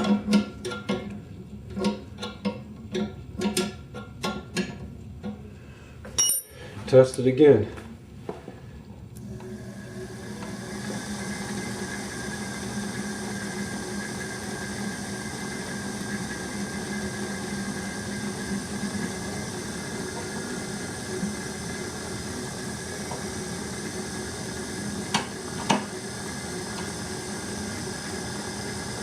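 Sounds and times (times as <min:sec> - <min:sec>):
pottery wheel motor and belt hum: 0:00.0 - 0:29.0.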